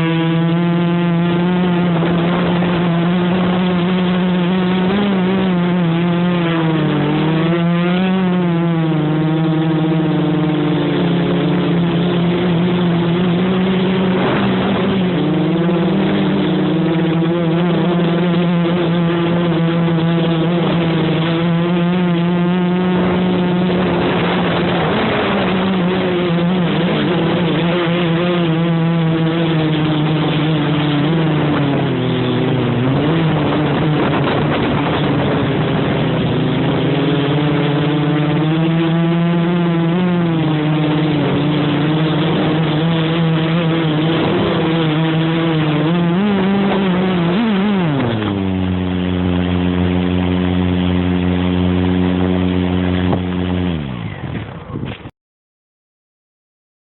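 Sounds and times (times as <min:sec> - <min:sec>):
quadcopter propellers buzzing: 0:00.0 - 0:55.1.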